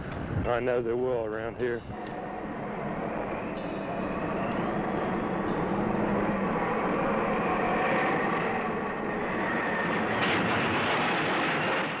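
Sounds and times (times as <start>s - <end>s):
storm wind roaring: 0.0s - 12.0s.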